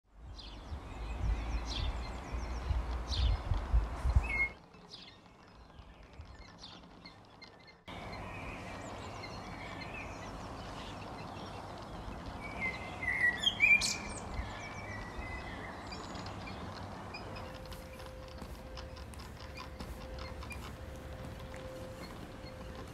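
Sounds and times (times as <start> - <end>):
small birds chirping: 0.2 - 22.9.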